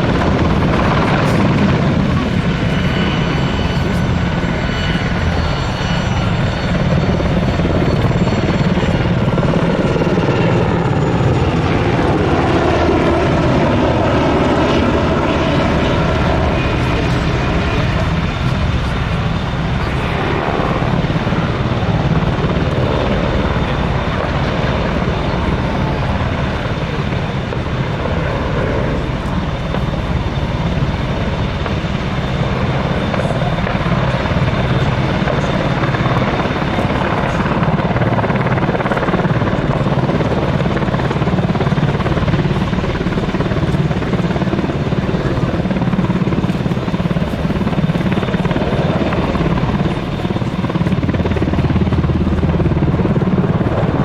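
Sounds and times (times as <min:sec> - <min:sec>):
helicopter rotor and engines: 0:00.0 - 0:54.0
high turbine whine: 0:00.0 - 0:54.0.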